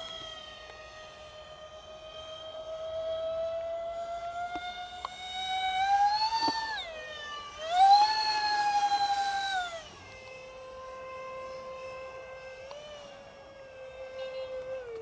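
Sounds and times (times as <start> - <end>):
electric ducted-fan motors whining: 0.0 - 15.0.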